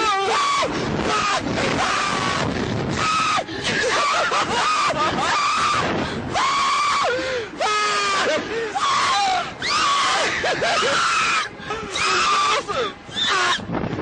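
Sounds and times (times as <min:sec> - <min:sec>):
young men screaming: 0:00.0 - 0:13.7
wind noise on microphone: 0:00.0 - 0:14.0.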